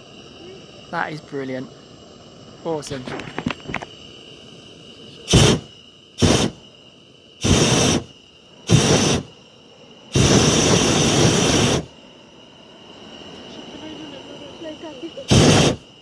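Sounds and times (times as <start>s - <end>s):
propane burner blasts: 0.0s - 16.0s.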